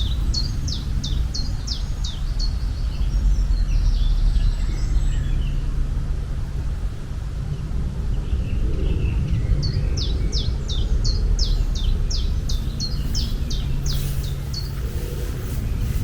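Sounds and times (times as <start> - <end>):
low rumble: 0.0 - 16.0
songbird singing: 0.0 - 16.0.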